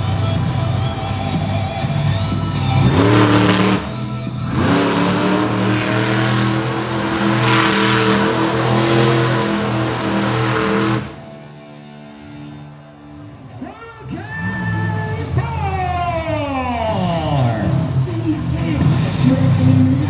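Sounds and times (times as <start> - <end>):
monster truck engine revving: 0.0 - 11.6, 14.1 - 20.0.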